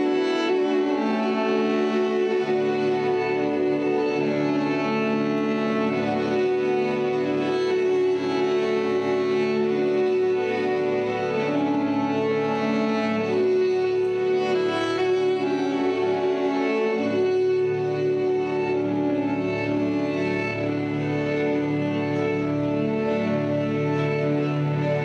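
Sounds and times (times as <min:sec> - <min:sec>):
cello: 0:00.0 - 0:25.0
violin: 0:00.0 - 0:25.0.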